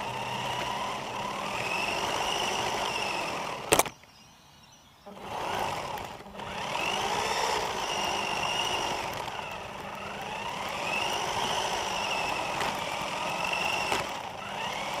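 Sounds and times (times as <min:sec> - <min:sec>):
toy car motor whining: 0:00.0 - 0:04.0, 0:05.0 - 0:15.0
tyre and ground noise: 0:00.0 - 0:04.1, 0:05.1 - 0:15.0.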